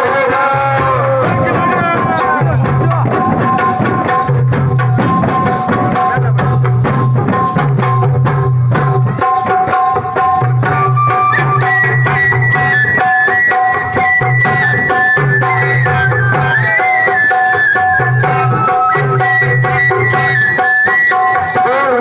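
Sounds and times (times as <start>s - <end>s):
frame drums beating: 0.0s - 22.0s
held melody line: 0.0s - 22.0s.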